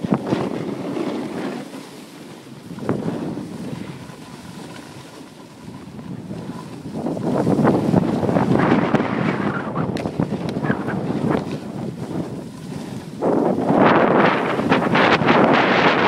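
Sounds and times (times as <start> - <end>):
snowboard scraping over snow: 0.0 - 16.0
wind on microphone: 0.0 - 16.0.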